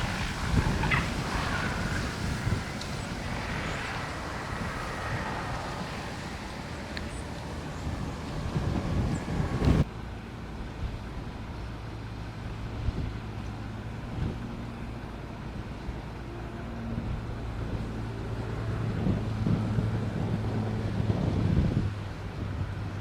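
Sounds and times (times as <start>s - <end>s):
wind buffeting microphone: 0.0s - 9.9s, 12.5s - 23.0s
propeller airplane engine droning: 0.0s - 23.0s.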